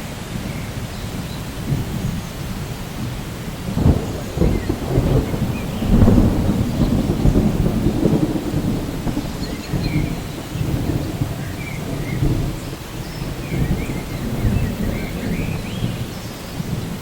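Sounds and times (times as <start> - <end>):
steady rain: 0.0 - 17.0
rolling thunder: 0.4 - 17.0.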